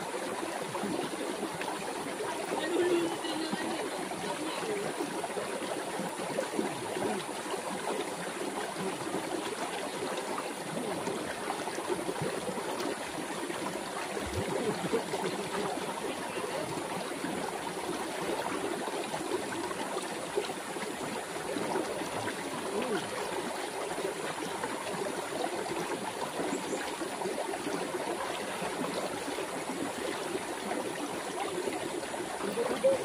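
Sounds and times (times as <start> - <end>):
river water babbling over rocks: 0.0 - 33.0.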